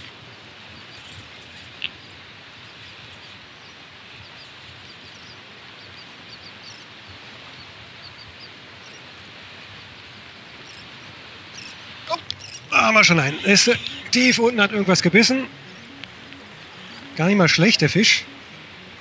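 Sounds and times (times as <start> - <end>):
running water: 0.0 - 19.0
small birds chirping: 0.0 - 19.0.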